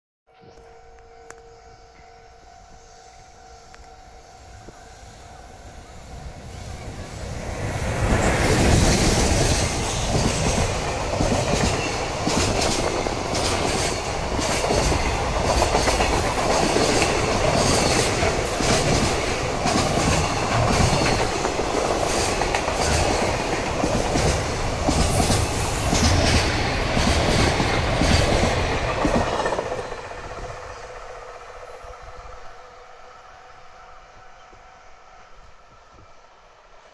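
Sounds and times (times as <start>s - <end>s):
freight train passing: 0.4s - 36.9s.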